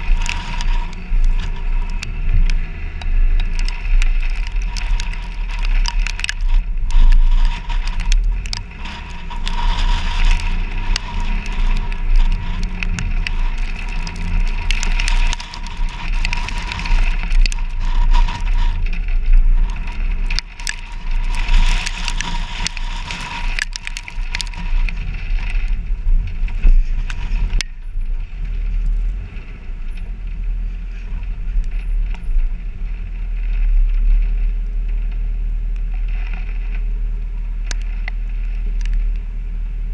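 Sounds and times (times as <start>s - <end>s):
wind buffeting: 0.0s - 35.2s
crackling from bumpy ride: 0.0s - 39.9s
low engine drone: 0.0s - 39.9s.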